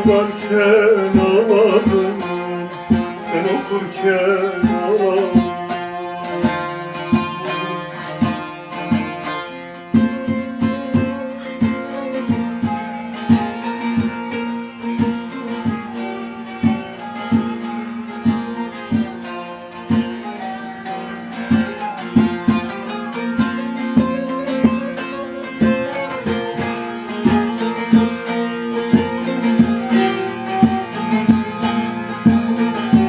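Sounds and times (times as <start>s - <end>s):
long-necked lute plucked and strummed: 0.0s - 33.0s.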